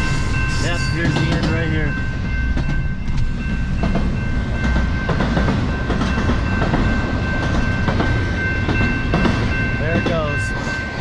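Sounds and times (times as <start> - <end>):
steady high-pitched tone: 0.0 - 11.0.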